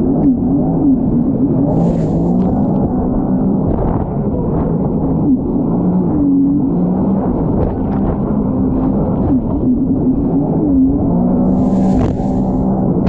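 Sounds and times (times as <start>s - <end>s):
jet ski engine revving: 1.5s - 13.0s.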